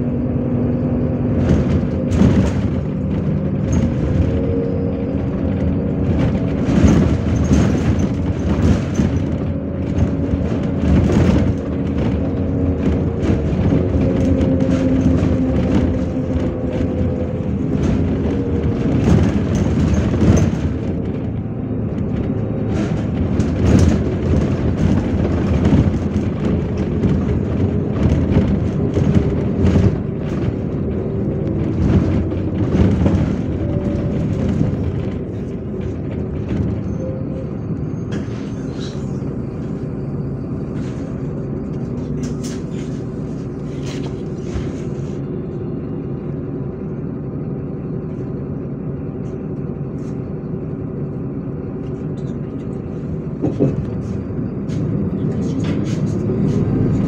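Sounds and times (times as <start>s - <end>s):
bus body rattling and clattering: 0.0s - 57.0s
bus engine running: 0.0s - 57.0s.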